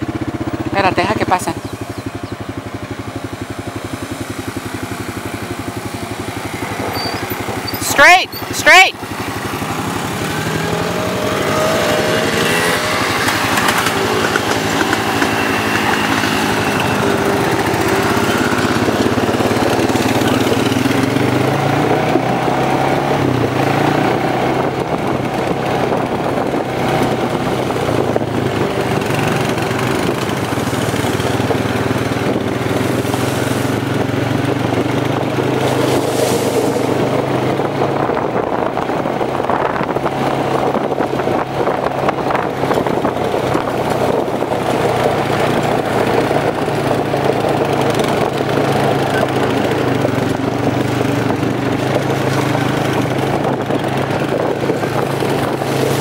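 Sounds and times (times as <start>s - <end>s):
quad engine drone: 0.0s - 56.0s
quad engines driving past: 0.0s - 56.0s.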